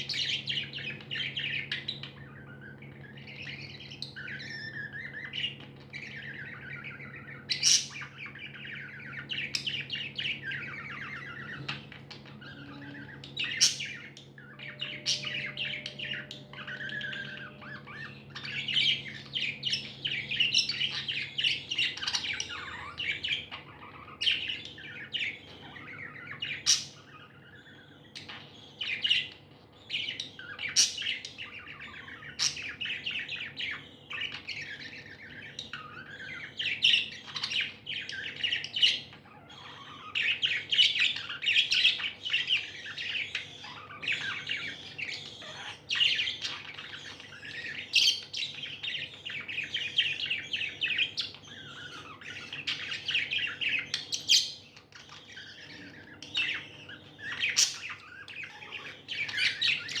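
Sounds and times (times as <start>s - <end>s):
budgerigars chirping and chattering: 0.0s - 60.0s.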